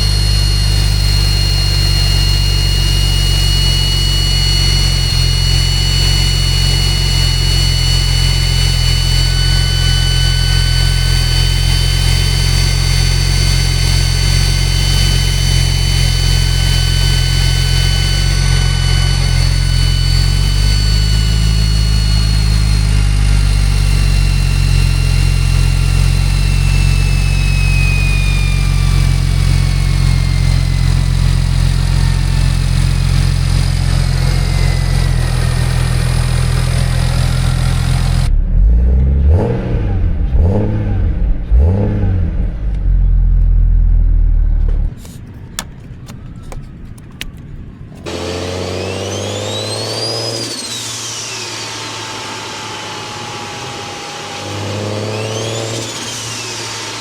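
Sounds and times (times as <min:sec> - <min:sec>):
car engine running: 0:00.0 - 0:50.4
engine revving blips: 0:00.0 - 0:57.0
turbo whine: 0:00.0 - 0:57.0.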